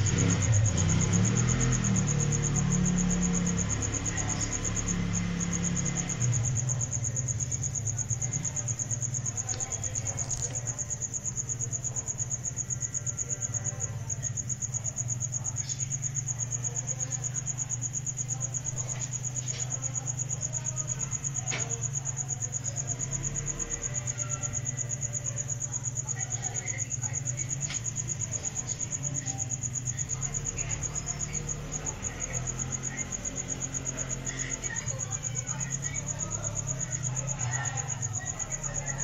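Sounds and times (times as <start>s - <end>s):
cricket trilling: 0.0s - 39.0s.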